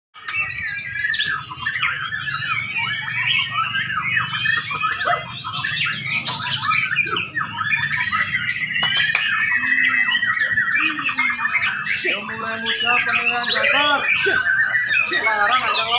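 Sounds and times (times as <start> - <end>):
songbird singing whistled phrases: 0.2 - 15.9.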